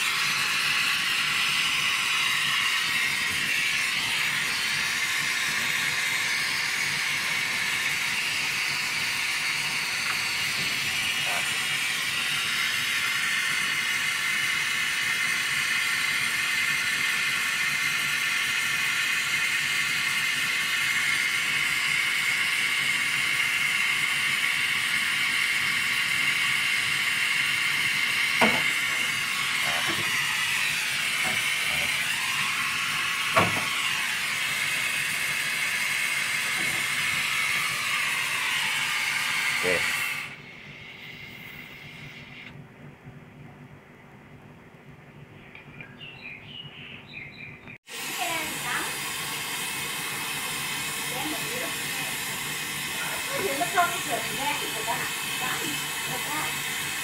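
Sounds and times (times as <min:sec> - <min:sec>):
gas torch hissing: 0:00.0 - 0:42.6, 0:47.8 - 0:57.0.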